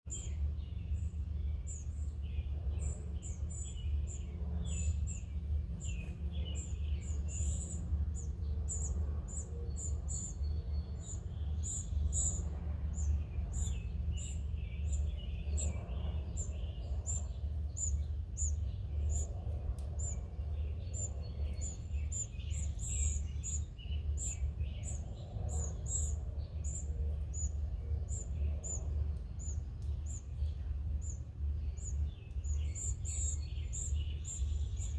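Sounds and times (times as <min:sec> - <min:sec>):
small birds chirping: 0:00.0 - 0:34.9
steady low rumble: 0:00.1 - 0:34.9.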